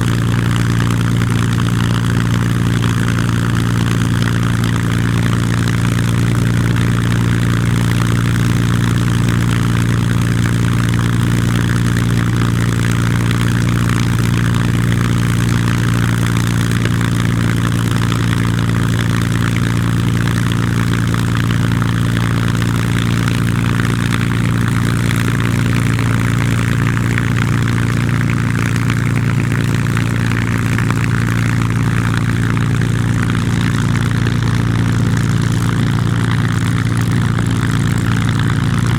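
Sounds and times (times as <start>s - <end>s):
piston aero engine droning: 0.0s - 38.9s.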